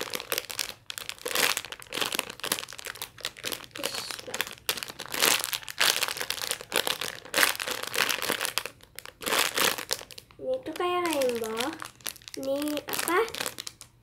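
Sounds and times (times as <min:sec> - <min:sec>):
foam squishy toy rustling: 0:00.0 - 0:13.8.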